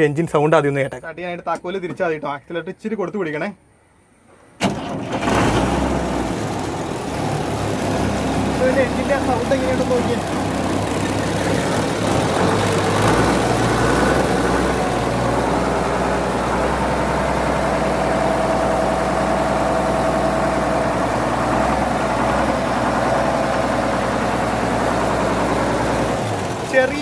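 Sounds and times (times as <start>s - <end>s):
diesel truck engine idling: 4.7s - 27.0s.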